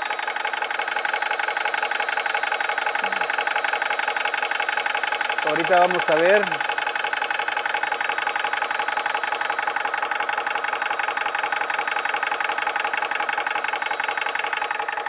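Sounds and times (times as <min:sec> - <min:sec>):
air compressor running with piston pulsing: 0:00.0 - 0:15.0.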